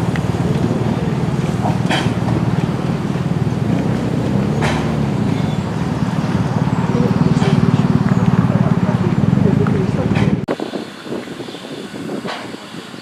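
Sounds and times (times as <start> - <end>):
low rumble: 0.0 - 10.6
steam locomotive exhaust chuffs: 0.0 - 13.0.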